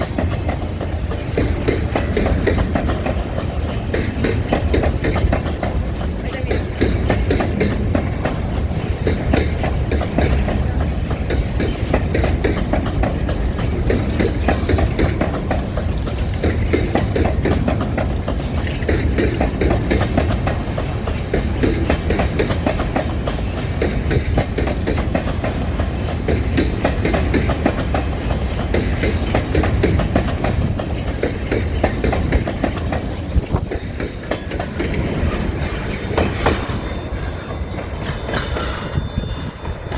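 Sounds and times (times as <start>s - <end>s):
train rumbling on rails: 0.0s - 39.9s
wheels clickety-clack: 0.0s - 39.9s.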